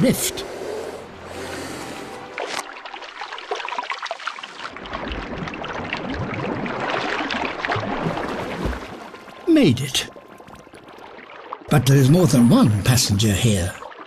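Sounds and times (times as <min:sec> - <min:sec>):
low rumble of moving water: 0:00.0 - 0:14.0
sea water gurgling and splashing: 0:00.0 - 0:14.0.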